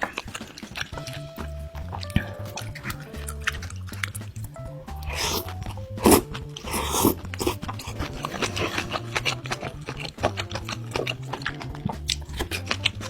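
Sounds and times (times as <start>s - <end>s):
background music: 0.0s - 13.0s
crunchy chewing of food: 1.8s - 13.0s.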